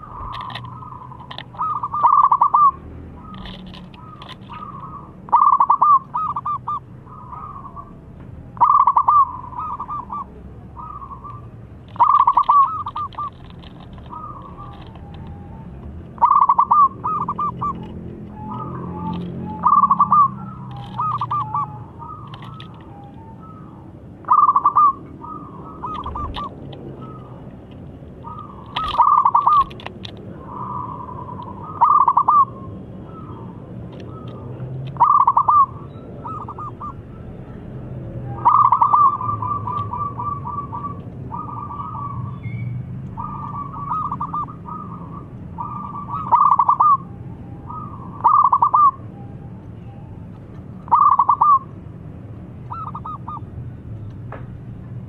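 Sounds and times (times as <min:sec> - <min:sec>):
dove cooing: 0:00.0 - 0:49.0, 0:50.9 - 0:51.7, 0:52.7 - 0:53.5.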